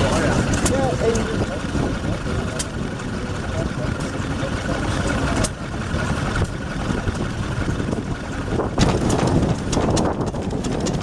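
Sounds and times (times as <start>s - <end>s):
wind on microphone: 0.0s - 3.8s, 4.9s - 11.0s
engine running: 0.0s - 11.0s.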